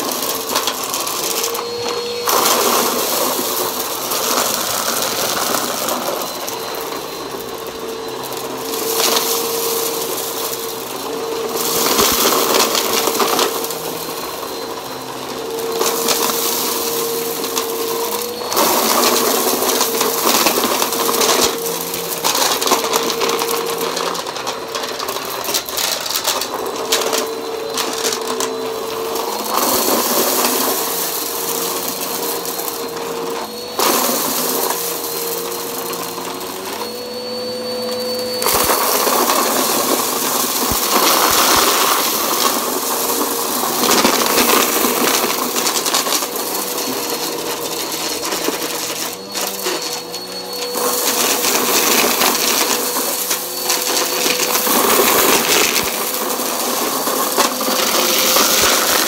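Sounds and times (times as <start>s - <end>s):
debris crackling in vacuum: 0.0s - 59.0s
vacuum cleaner motor whine: 0.0s - 59.0s.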